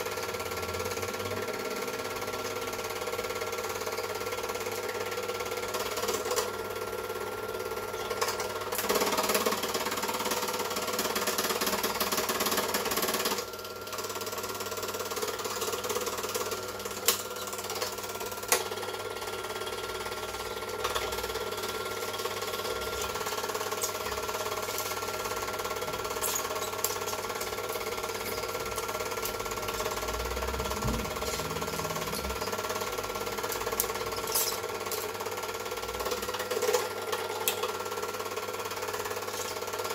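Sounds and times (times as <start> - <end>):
film projector motor whir: 0.0 - 39.9
film transport chatter: 0.0 - 39.9.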